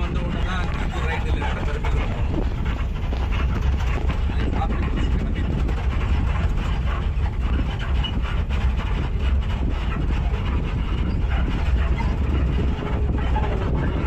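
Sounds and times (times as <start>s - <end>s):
vehicle body rattling and knocking: 0.0s - 14.0s
vehicle engine rumble: 0.0s - 14.0s.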